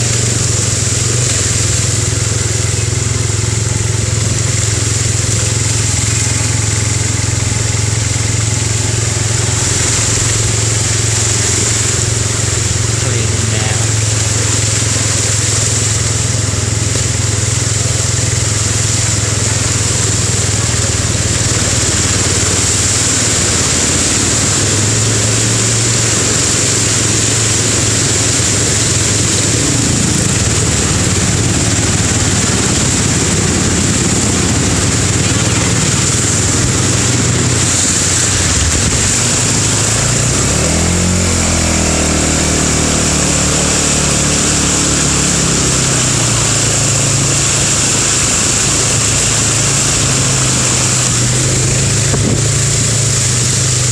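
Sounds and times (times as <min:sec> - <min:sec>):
motorcycle engine running: 0:00.0 - 0:53.9
water splashing: 0:00.0 - 0:53.9.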